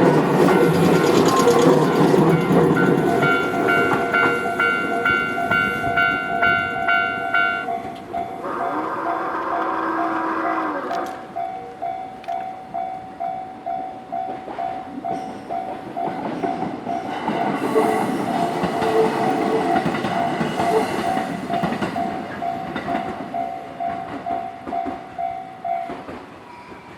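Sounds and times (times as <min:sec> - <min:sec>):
train wheels running over crossing: 0:00.0 - 0:10.3, 0:14.2 - 0:26.9
level crossing warning bell dinging: 0:00.0 - 0:26.9.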